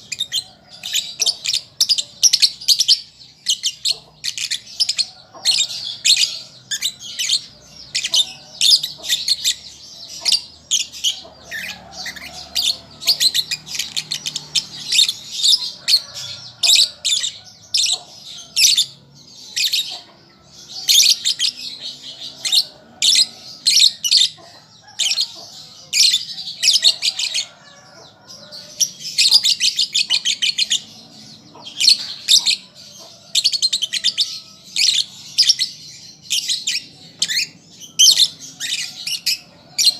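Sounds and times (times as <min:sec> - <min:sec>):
lovebird chattering chirps: 0:00.0 - 0:27.5, 0:28.4 - 0:31.0, 0:31.6 - 0:39.9.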